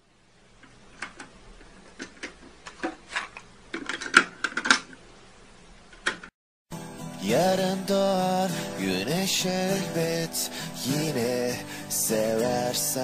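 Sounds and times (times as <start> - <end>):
tape hiss: 0.0 - 13.0.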